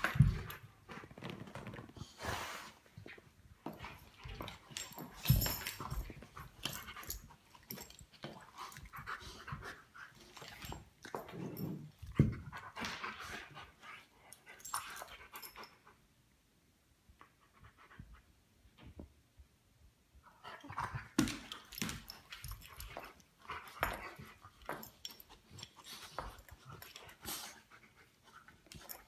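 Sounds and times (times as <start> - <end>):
dogs panting and scuffling: 0.0 - 16.0, 20.3 - 29.0.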